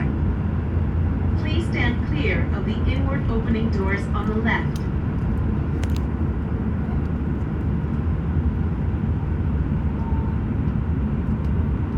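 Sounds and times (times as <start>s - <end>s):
train rumbling from inside: 0.0s - 11.9s.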